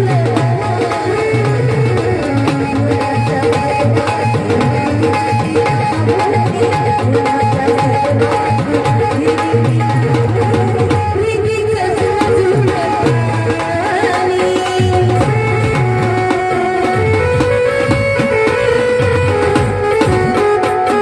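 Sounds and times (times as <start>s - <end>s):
hand drum rhythm: 0.0s - 21.0s
held melody line: 0.0s - 21.0s.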